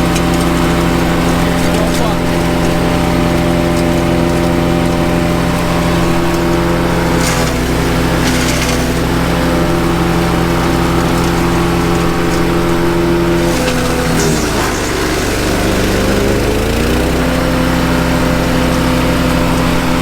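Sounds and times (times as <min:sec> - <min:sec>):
branches crackling in chipper: 0:00.0 - 0:20.0
wood chipper engine running: 0:00.0 - 0:20.0.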